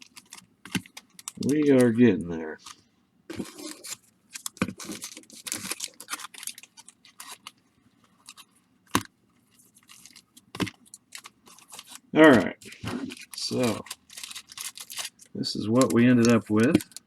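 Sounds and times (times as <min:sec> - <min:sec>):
card wrappers crinkling: 0:00.0 - 0:17.0.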